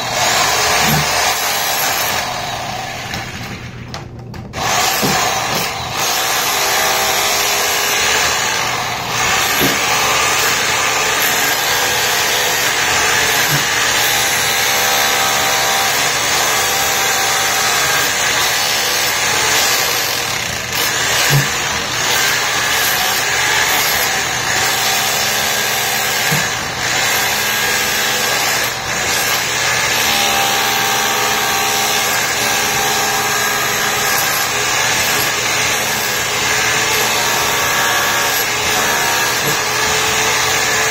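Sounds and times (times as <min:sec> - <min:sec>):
hammer drill chiselling concrete: 0:00.0 - 0:40.9.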